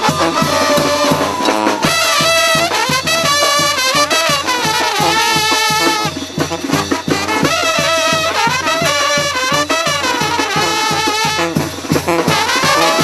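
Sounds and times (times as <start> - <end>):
drum beat: 0.0 - 13.0
trumpets playing melody: 0.0 - 13.0.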